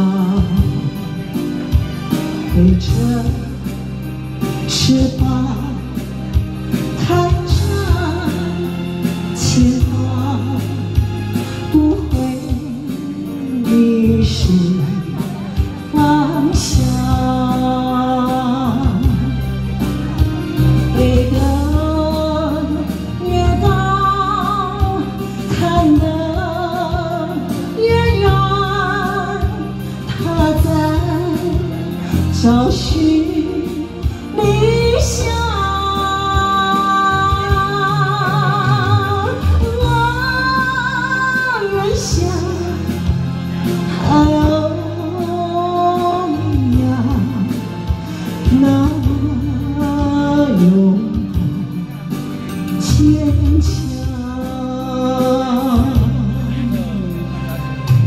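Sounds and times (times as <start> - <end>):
woman singing with vibrato: 0.0 - 52.0, 52.6 - 57.6
backing music: 0.0 - 58.0.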